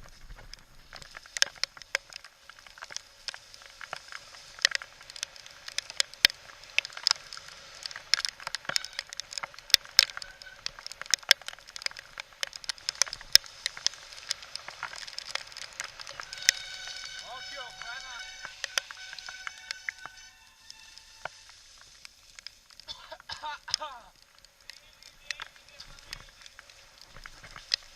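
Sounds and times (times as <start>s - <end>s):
bike clicking and tapping: 0.0s - 27.9s
heavy rain hiss: 0.0s - 27.9s.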